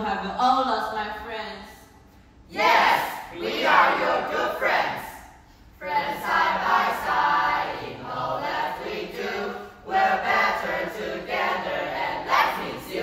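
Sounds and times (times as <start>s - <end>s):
young voices singing in unison: 2.5s - 13.0s.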